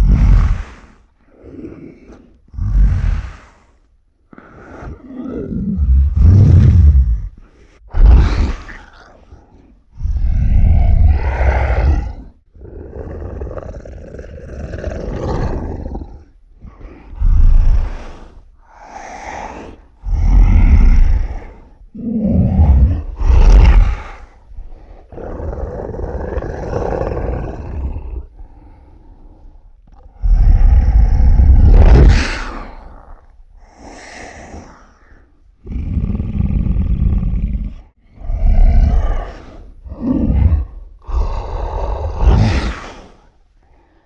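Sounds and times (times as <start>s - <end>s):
monster growls and roars: 0.0s - 3.8s, 4.4s - 44.0s.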